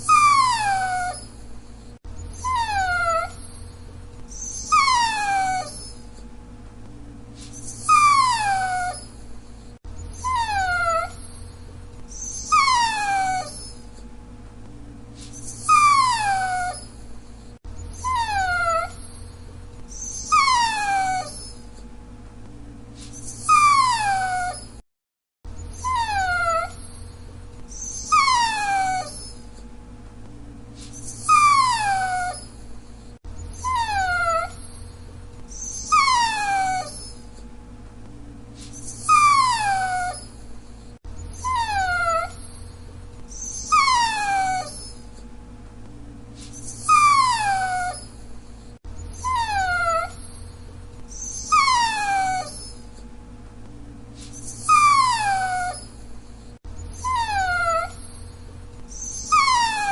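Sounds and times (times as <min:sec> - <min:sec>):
dog whining: 0:00.0 - 0:06.3, 0:07.4 - 0:14.1, 0:15.2 - 0:21.9, 0:23.0 - 0:24.8, 0:25.5 - 0:29.7, 0:30.8 - 0:37.5, 0:38.6 - 0:45.3, 0:46.4 - 0:53.1, 0:54.2 - 0:59.9.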